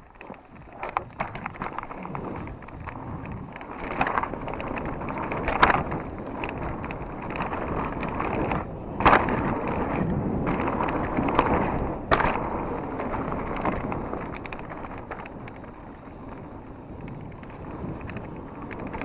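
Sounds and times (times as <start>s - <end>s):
bike tyres rolling over dirt: 0.0s - 19.0s
wind on microphone: 0.0s - 19.0s.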